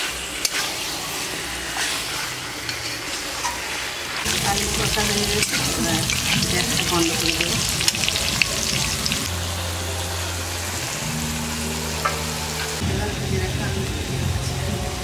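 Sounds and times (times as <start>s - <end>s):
potatoes sizzling in oil: 0.0s - 12.8s.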